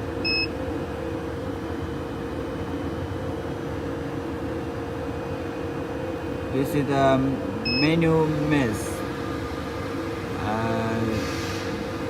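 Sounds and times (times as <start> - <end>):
factory machinery humming: 0.0 - 12.0.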